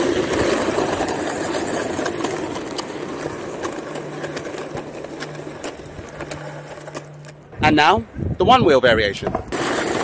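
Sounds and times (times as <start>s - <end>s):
roller-skate wheels on asphalt: 0.0s - 10.0s
skate wheels dragging: 0.0s - 10.0s.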